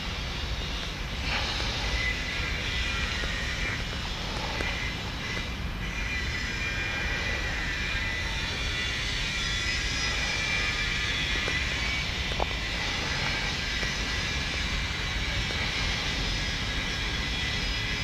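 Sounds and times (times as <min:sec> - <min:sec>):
hiss: 0:00.0 - 0:18.0.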